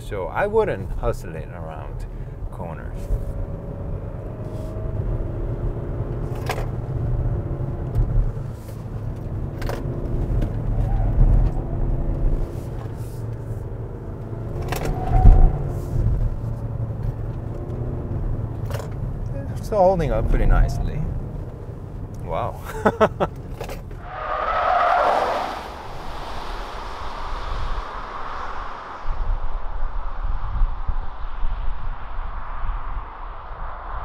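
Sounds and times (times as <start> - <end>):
road and tyre rumble: 0.0 - 34.0.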